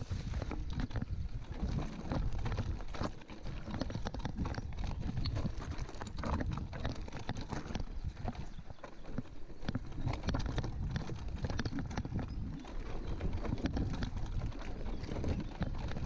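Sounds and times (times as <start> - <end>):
bike frame rattling: 0.0 - 16.0
tyres crunching over stones: 0.0 - 16.0.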